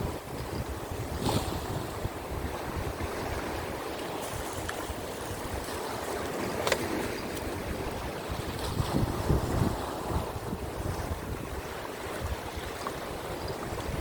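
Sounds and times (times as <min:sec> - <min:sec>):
sea waves breaking on rocks: 0:00.0 - 0:14.0
wind buffeting microphone: 0:00.0 - 0:14.0.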